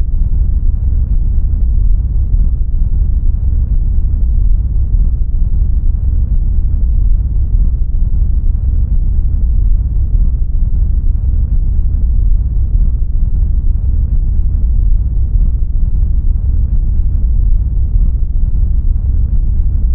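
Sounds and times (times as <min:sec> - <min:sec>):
deep rumbling noise: 0:00.0 - 0:19.9.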